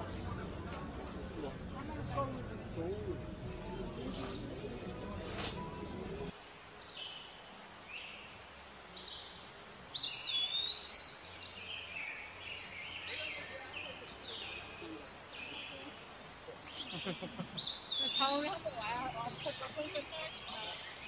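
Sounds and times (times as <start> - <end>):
birds chirping: 0.0 - 8.3, 8.9 - 21.0.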